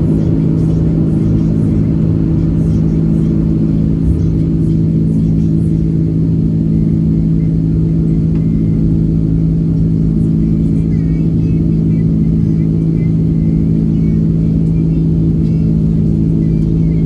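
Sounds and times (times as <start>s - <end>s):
airliner cabin drone: 0.0s - 17.0s.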